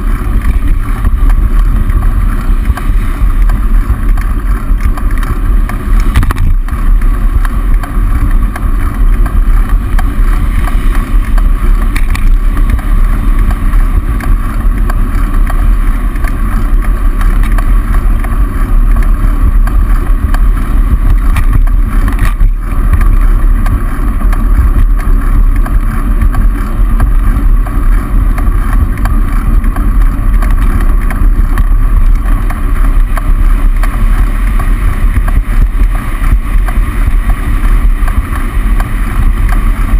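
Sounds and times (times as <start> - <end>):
traffic noise: 0.0 - 39.9
tyre noise: 0.0 - 39.9
wind rumble on microphone: 0.0 - 39.9.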